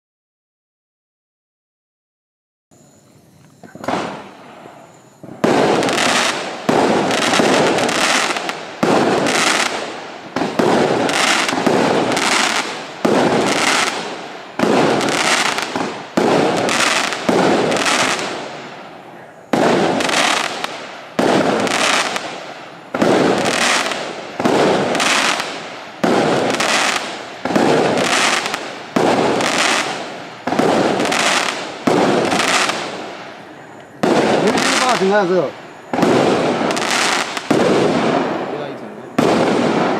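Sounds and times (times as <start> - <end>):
firework bangs: 3.6 - 39.9.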